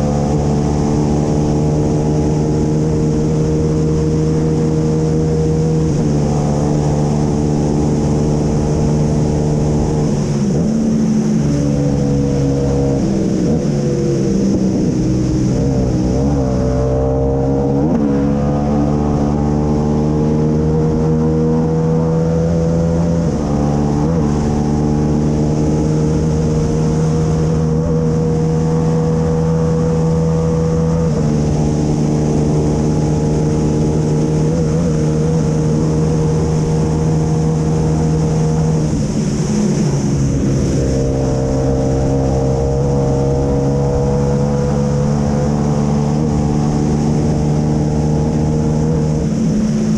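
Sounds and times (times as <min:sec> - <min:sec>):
racing engine at high revs: 0:00.0 - 0:49.9.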